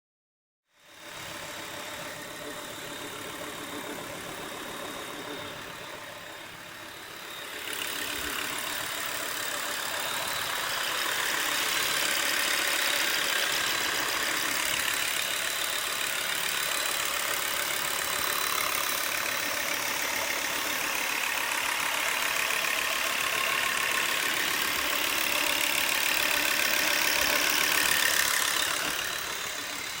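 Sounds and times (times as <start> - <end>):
car engine running: 0.8 - 30.0.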